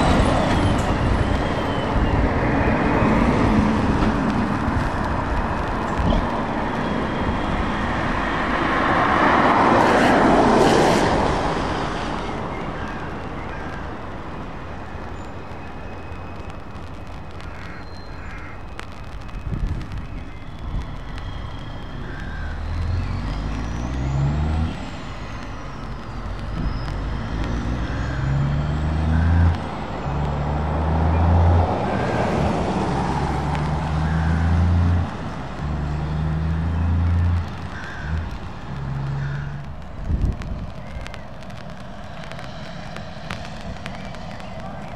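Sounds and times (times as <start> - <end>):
truck diesel engines accelerating: 0.0 - 17.4, 18.8 - 44.9
tyre noise on wet road: 0.0 - 44.9.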